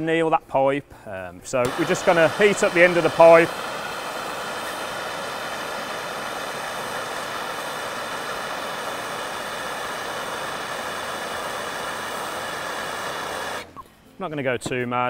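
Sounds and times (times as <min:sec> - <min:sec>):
gas torch hissing: 0:01.6 - 0:13.8.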